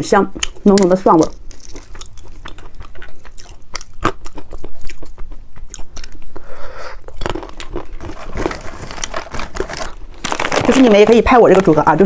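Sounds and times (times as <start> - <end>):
peanut shells cracking: 0.4 - 6.4, 7.0 - 11.6
chewing: 0.4 - 10.6.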